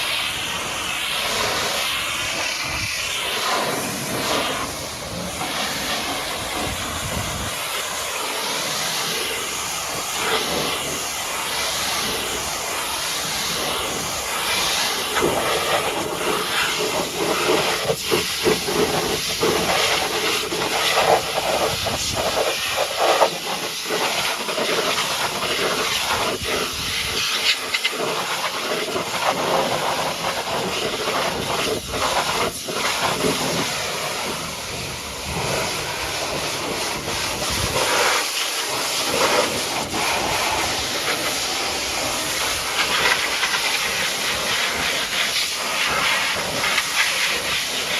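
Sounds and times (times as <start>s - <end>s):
high-pressure water jet spraying: 0.0s - 47.9s.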